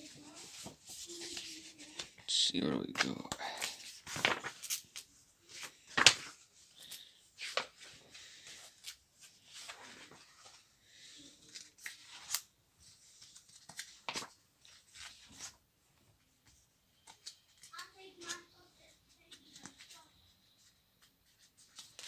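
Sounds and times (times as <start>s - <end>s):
book pages turning: 0.0s - 2.3s, 2.9s - 15.6s, 16.3s - 22.0s.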